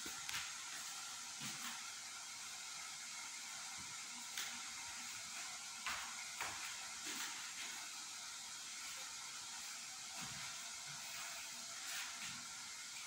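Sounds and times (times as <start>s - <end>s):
sauce sizzling in a pan: 0.4s - 13.0s.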